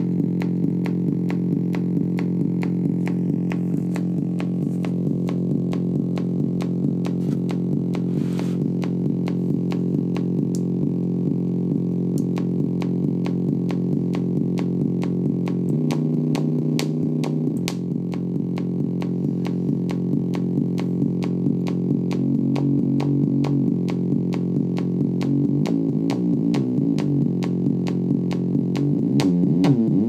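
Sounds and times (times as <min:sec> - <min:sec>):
buzzy synthesizer drone: 0:00.0 - 0:30.0
steady clicking pulse: 0:00.0 - 0:30.0.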